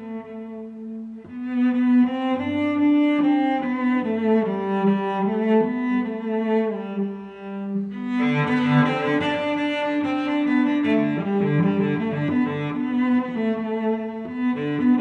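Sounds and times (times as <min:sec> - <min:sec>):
bowed strings music: 0:00.0 - 0:15.0.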